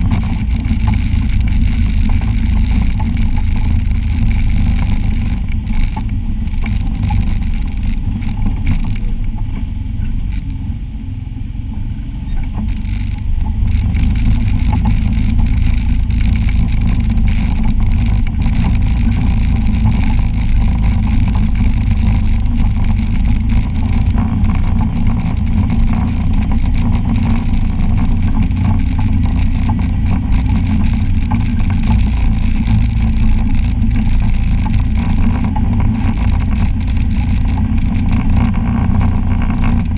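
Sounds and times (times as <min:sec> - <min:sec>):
utility vehicle engine running: 0:00.0 - 0:39.9.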